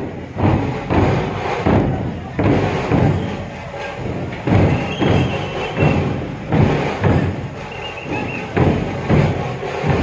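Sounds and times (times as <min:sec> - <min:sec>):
music with heavy drumbeats: 0:00.0 - 0:10.0.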